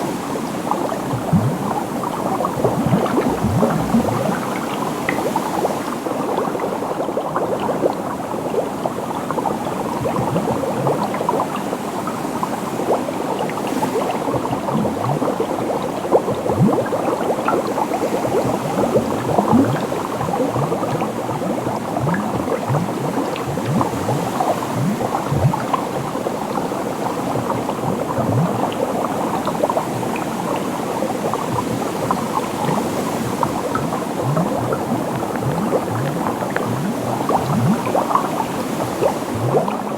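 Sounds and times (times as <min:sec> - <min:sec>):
liquid bubbling: 0:00.3 - 0:39.9.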